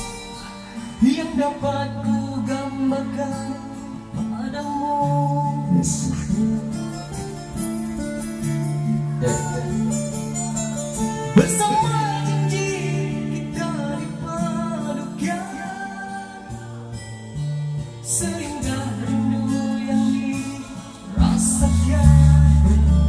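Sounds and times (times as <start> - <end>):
man singing into microphone: 0.0 - 6.7, 9.2 - 17.1, 18.0 - 23.0
backing music with guitar: 0.0 - 23.0.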